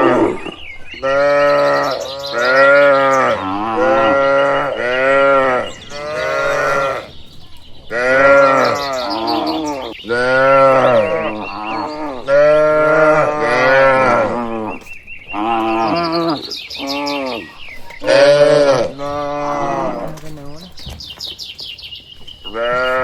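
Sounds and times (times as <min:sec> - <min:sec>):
cattle mooing: 0:00.0 - 0:07.1, 0:07.9 - 0:20.8, 0:22.5 - 0:23.0.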